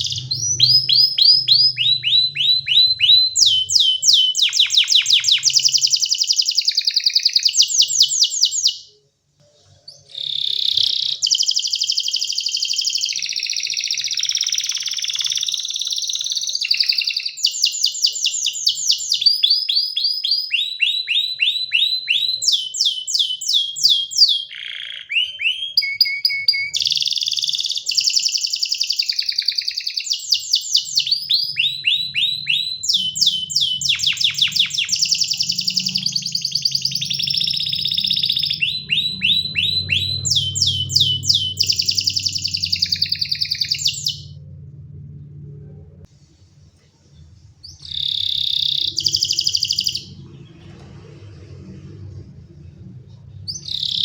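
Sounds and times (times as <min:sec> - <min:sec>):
canary singing trills: 0:00.0 - 0:09.0, 0:09.6 - 0:45.2, 0:47.6 - 0:50.8, 0:53.2 - 0:54.0.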